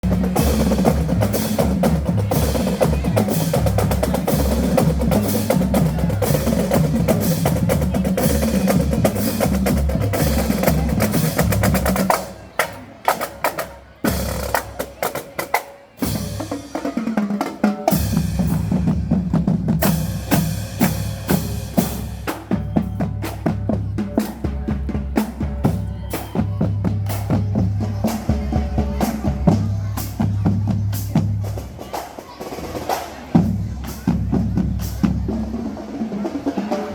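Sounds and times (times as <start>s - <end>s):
marching drumline on snare and bass: 0.0s - 36.9s.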